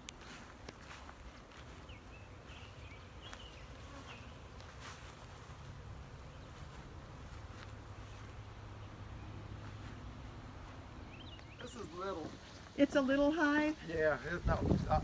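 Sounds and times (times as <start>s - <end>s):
bee swarm buzzing: 1.6s - 13.9s.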